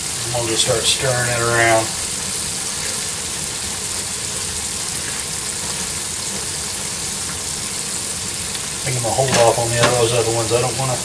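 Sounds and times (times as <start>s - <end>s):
battered meat sizzling in hot oil: 0.0s - 11.0s.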